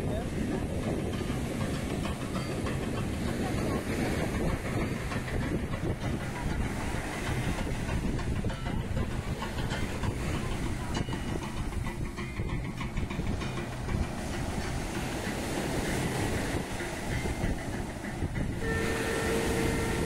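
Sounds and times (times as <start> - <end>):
surf washing: 0.0 - 20.0
wind buffeting microphone: 0.0 - 20.0.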